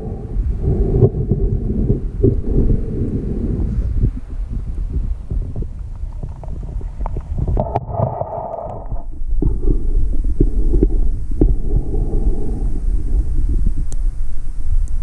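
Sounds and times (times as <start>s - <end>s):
muffled humming: 0.0s - 15.0s
muffled underwater rumble: 0.0s - 15.0s.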